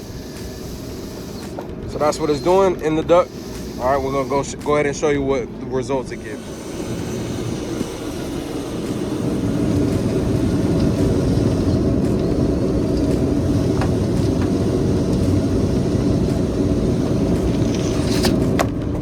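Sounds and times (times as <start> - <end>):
duct cleaning machine rumbling: 0.0 - 19.0.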